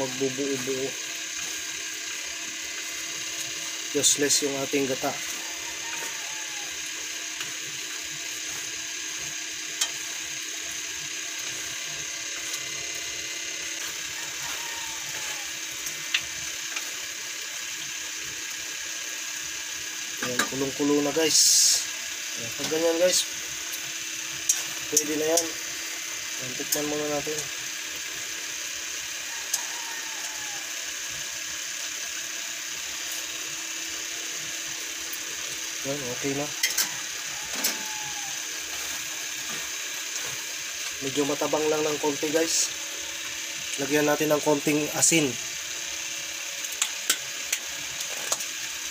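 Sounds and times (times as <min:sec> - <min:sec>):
stew boiling with steady hiss: 0:00.0 - 0:48.9.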